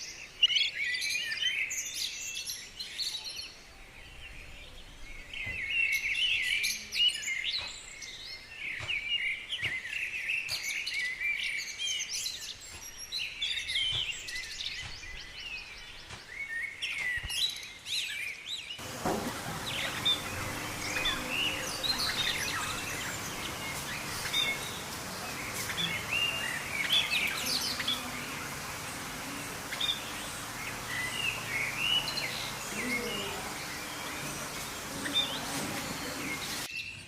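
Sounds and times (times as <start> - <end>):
birds chirping and singing: 0.0 - 37.0.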